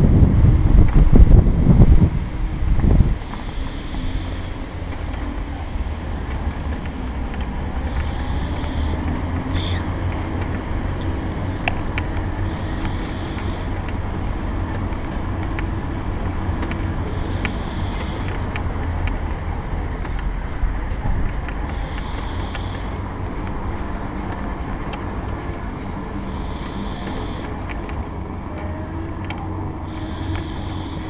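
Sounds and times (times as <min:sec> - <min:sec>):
mobility scooter motor rumble: 0:00.0 - 0:31.0
wind on microphone: 0:00.0 - 0:31.0
light clicks from bumps: 0:00.4 - 0:31.0.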